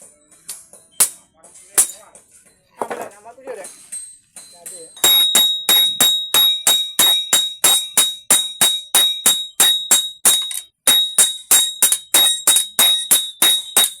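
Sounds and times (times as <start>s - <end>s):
hammer striking steel on anvil: 0.5s - 2.2s, 3.6s - 14.0s.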